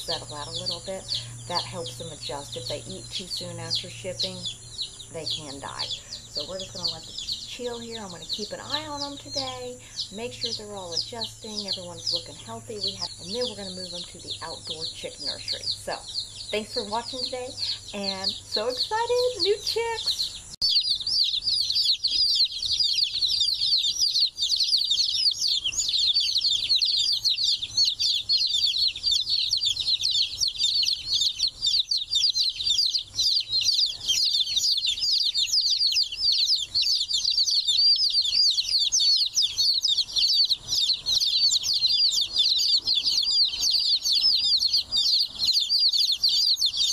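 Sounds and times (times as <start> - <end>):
chicks peeping: 0.0 - 46.9.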